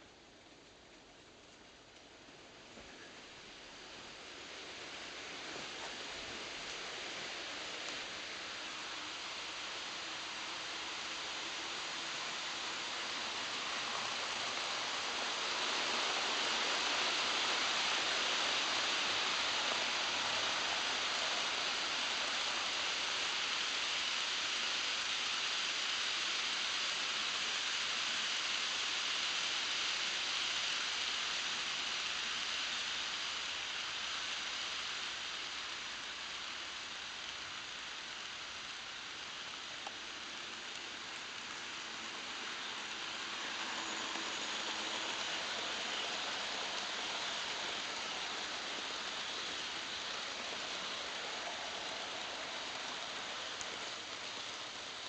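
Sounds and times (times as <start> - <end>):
model trains rolling on track: 0.0 - 55.0.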